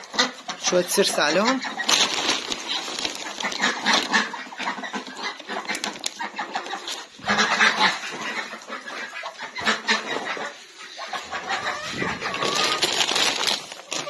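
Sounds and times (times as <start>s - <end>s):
chickens and ducks clucking: 0.0s - 14.0s.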